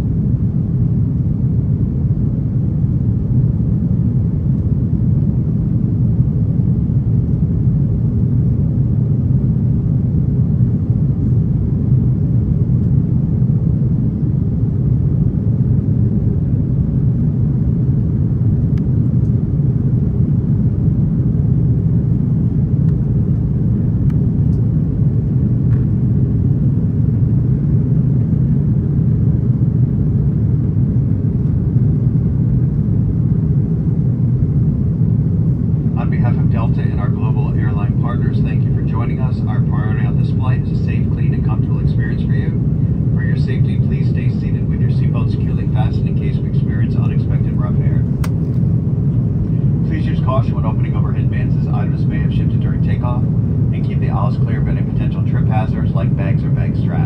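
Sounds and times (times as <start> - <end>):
aircraft engines rumbling: 0.0 - 57.0.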